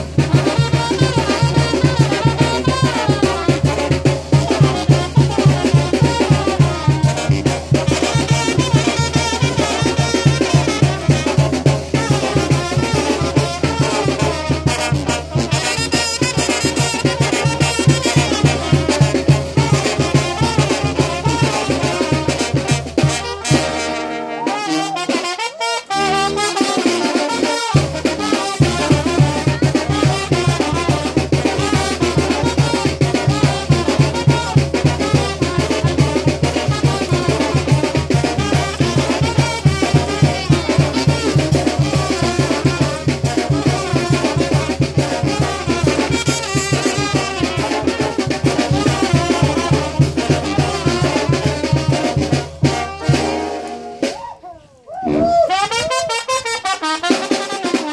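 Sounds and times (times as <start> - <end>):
latin dance music with brass: 0.0 - 54.4, 55.0 - 57.9.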